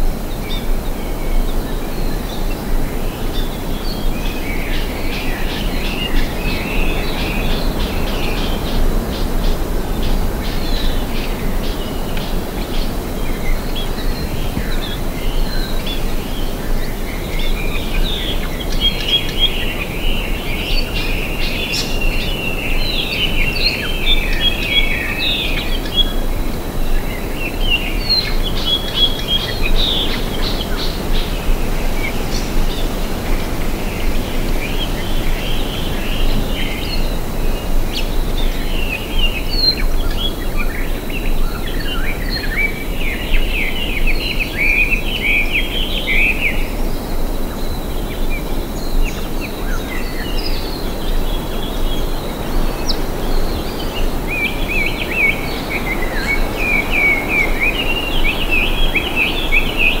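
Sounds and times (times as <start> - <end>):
birds singing: 0.0 - 60.0
wind rushing in trees: 0.0 - 60.0.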